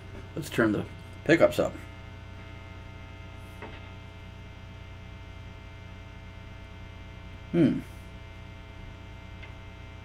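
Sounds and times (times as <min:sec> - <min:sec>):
guitar amp mains hum: 0:00.0 - 0:10.0.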